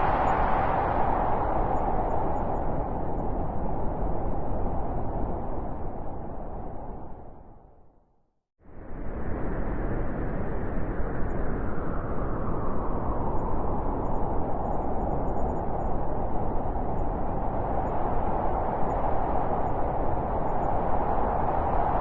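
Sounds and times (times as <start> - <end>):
blizzard wind howling: 0.0 - 8.0, 8.6 - 22.0.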